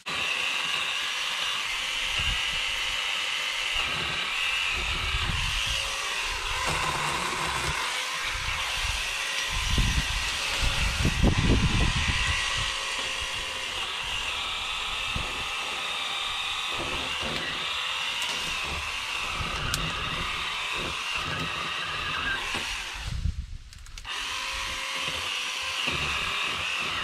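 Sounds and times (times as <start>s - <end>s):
small power saw running: 0.0s - 23.3s, 23.9s - 27.0s.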